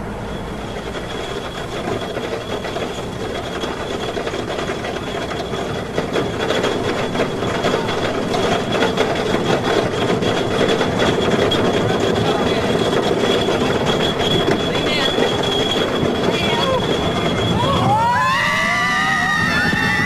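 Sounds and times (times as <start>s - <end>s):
roller coaster rattling on track: 0.0s - 20.0s.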